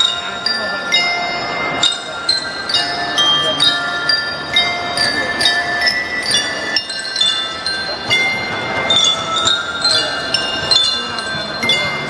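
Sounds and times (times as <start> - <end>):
bell lyra melody: 0.0 - 12.0.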